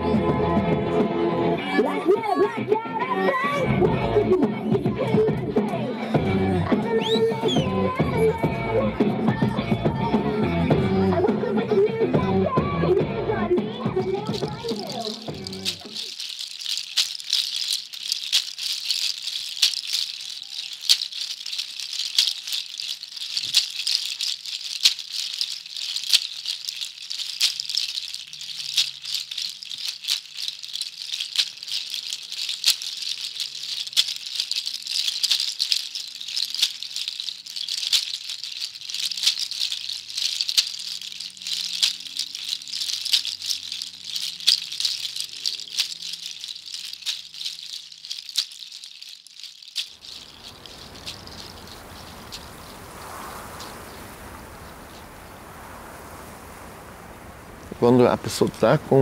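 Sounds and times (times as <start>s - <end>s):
rattles shaken: 3.2s - 10.3s, 13.6s - 53.8s, 57.8s - 59.0s.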